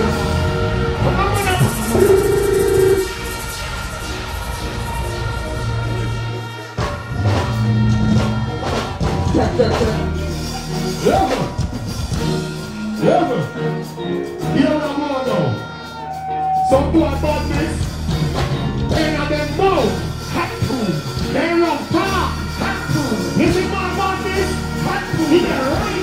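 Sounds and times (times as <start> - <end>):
loud dancehall music: 0.0 - 26.0.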